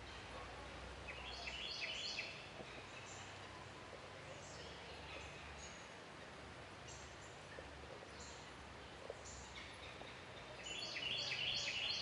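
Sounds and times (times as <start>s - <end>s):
songbird chirping: 0.0s - 12.0s
steady outdoor hiss: 0.0s - 12.0s.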